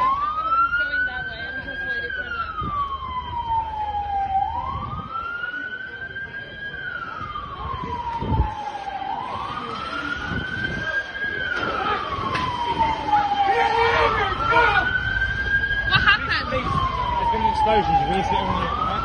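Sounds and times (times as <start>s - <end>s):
siren wailing: 0.0s - 19.0s.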